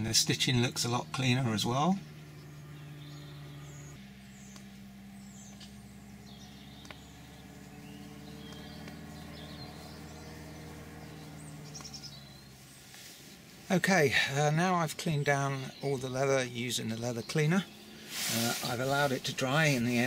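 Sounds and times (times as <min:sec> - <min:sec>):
steady low hum: 0:00.0 - 0:20.0
faint bird chirps: 0:01.0 - 0:20.0.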